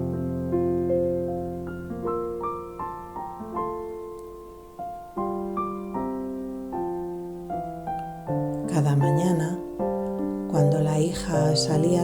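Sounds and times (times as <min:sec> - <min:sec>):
soft solo piano music: 0:00.0 - 0:12.0.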